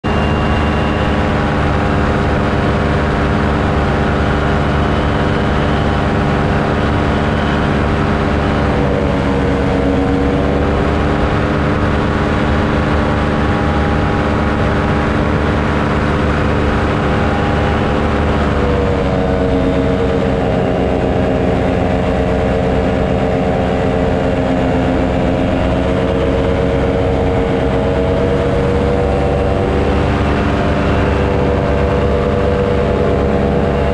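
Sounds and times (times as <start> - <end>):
loud engine running: 0.0 - 33.9.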